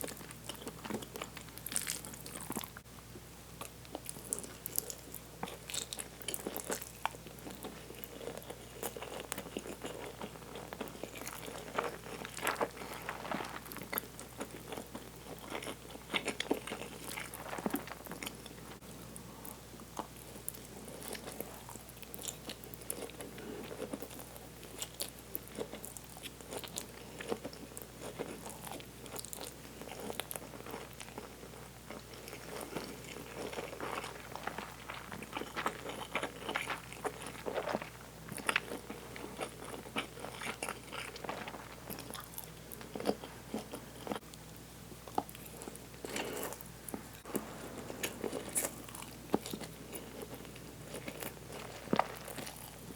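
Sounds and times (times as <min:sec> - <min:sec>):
person chewing food: 0:00.0 - 0:02.8, 0:03.6 - 0:52.9.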